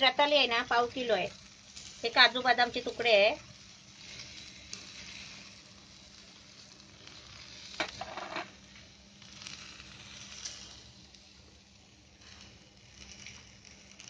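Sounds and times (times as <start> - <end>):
food sizzling faintly in oil: 0.0 - 14.0.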